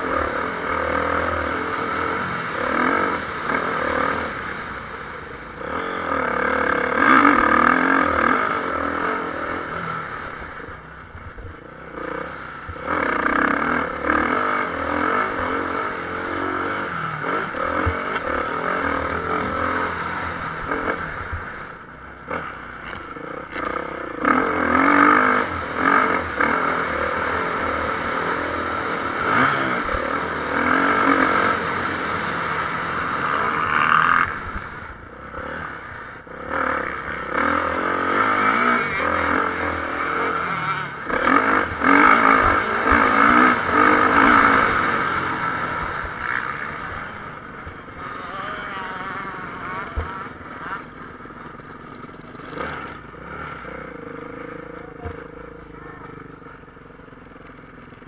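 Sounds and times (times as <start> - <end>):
motocross bikes revving: 0.0 - 58.0.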